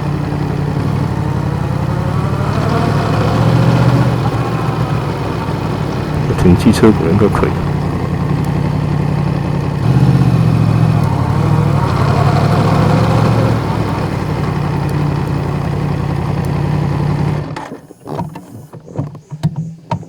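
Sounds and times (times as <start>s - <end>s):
motorcycle engine running: 0.0s - 17.6s.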